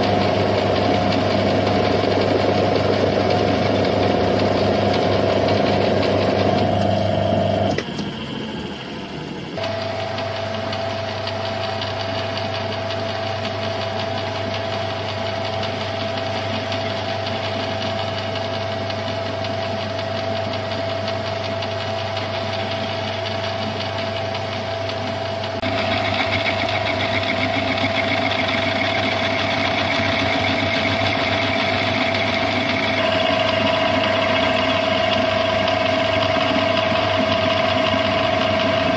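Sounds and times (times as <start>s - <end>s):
metal lathe humming and whining: 0.0s - 38.9s.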